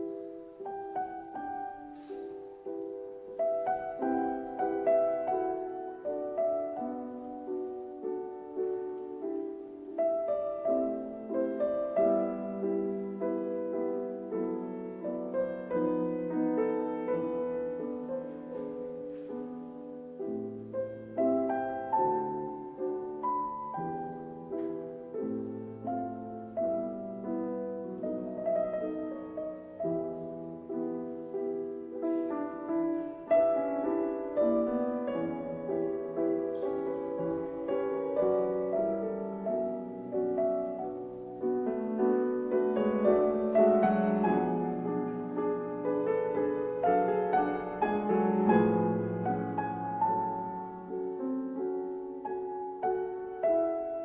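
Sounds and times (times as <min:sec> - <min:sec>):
gentle piano melody: 0:00.0 - 0:54.0.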